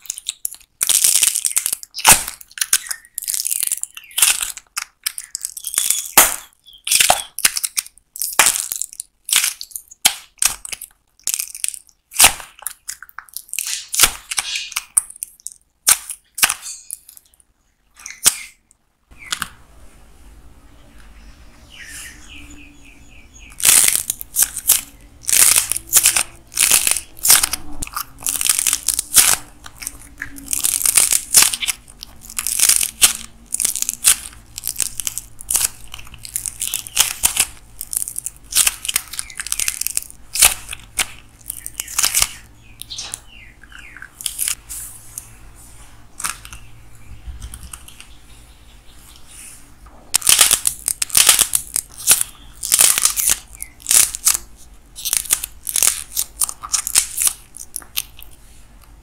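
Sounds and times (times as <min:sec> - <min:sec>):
clay model crackling and crunching: 0:00.0 - 0:19.5, 0:23.5 - 0:45.3, 0:46.1 - 0:46.7, 0:47.3 - 0:48.2, 0:50.1 - 0:59.0.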